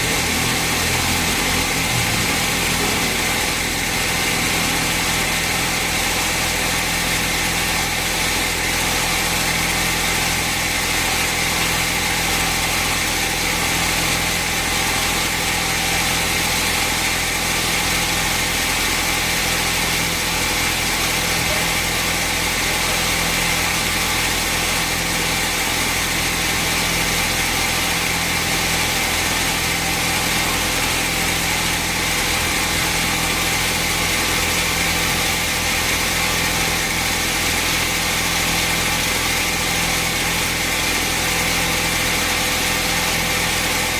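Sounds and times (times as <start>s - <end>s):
sawmill machinery drone: 0.0s - 43.9s.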